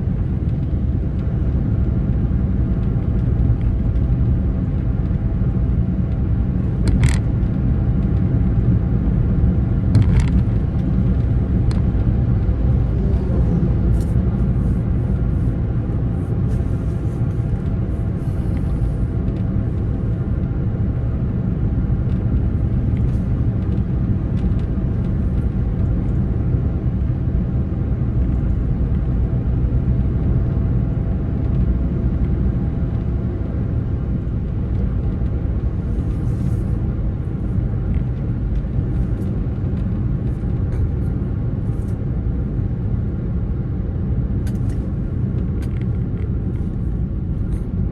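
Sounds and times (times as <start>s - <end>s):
vehicle driving rumble: 0.0s - 47.9s.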